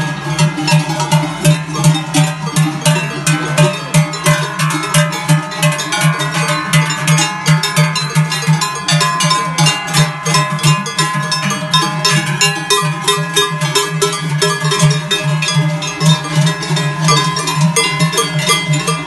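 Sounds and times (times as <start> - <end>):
cowbells clanging: 0.0 - 19.0
deep bell tone: 0.0 - 19.0.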